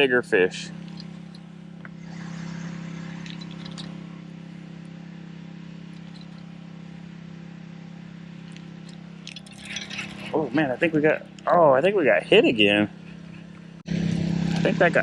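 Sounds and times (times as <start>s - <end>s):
small motor humming: 0.5s - 15.0s.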